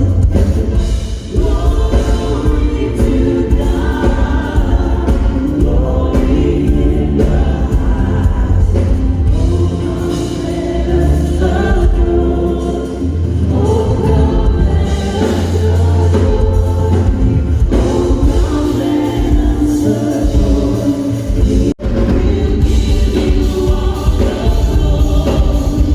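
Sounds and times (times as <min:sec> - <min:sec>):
band with bass and drum beat: 0:00.0 - 0:25.9
gospel choir singing: 0:00.0 - 0:25.9.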